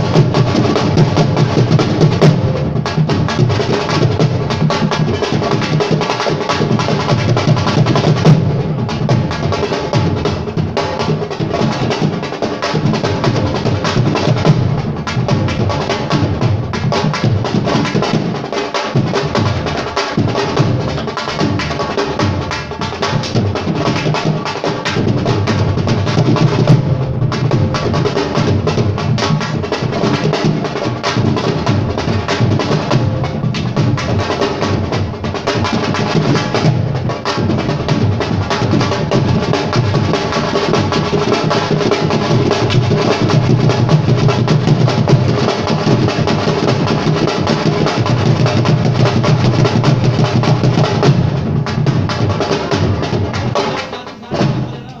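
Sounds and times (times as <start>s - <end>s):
drums playing fast rhythm: 0.0s - 55.0s.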